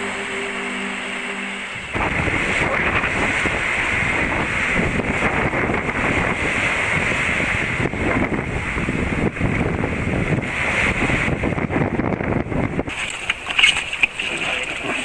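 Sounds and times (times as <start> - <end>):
surf breaking: 0.0 - 11.8, 12.5 - 15.0
wind buffeting microphone: 0.0 - 15.0.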